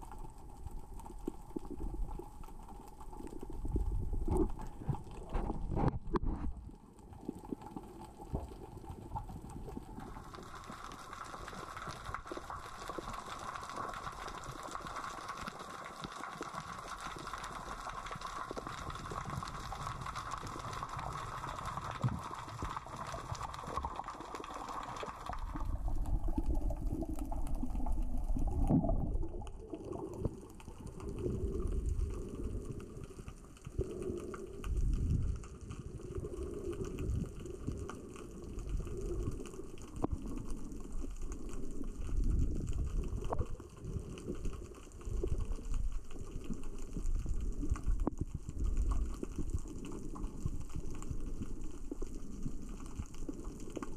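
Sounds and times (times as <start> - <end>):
rocks rolling underwater: 0.0 - 53.9
surges of moving water: 1.0 - 53.9.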